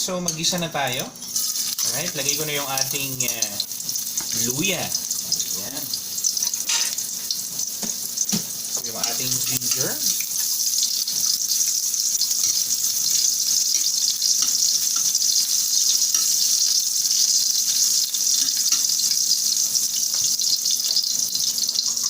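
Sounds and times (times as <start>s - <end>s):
ginger sizzling in hot oil: 0.0s - 22.0s.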